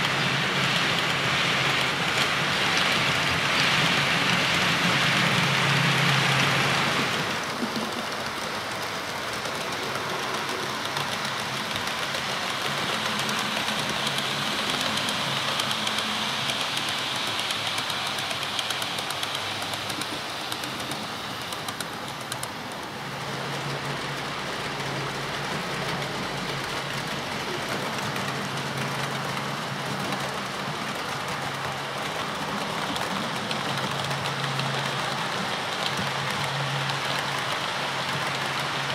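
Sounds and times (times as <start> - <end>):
model train wheels rolling on rail: 0.0 - 38.9.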